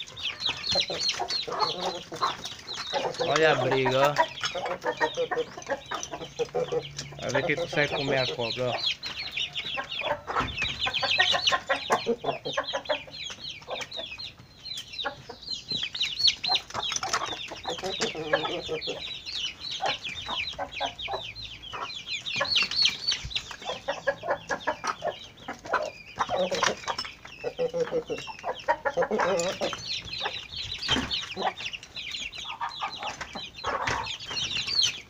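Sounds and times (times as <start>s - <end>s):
hens squabbling calls: 0.0s - 35.0s.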